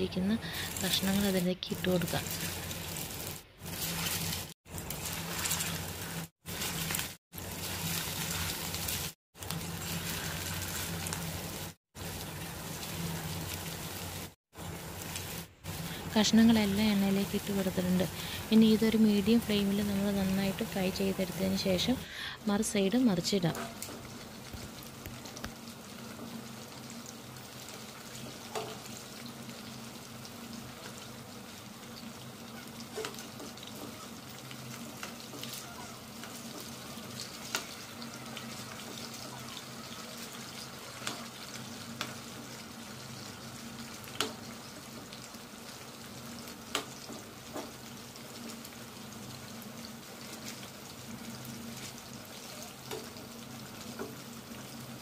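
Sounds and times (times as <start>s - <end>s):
chicken sizzling in hot oil: 0.4s - 55.0s.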